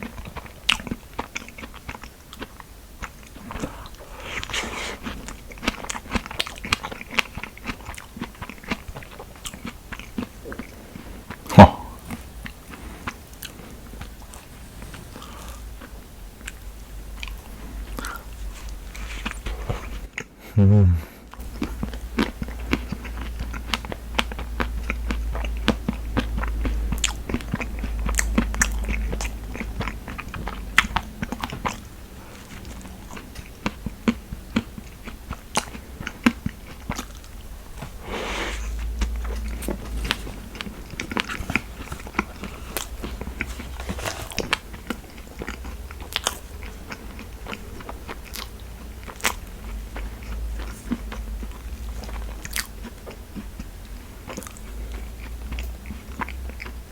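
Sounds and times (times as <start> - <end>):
person chewing crisp food: 0.0 - 56.9.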